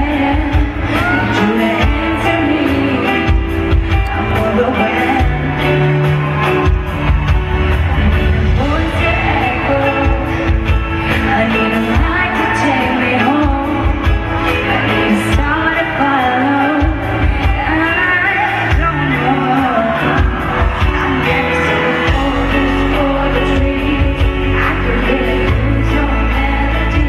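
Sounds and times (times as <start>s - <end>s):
amplified backing music: 0.0s - 27.0s
woman singing a pop ballad: 0.0s - 27.0s.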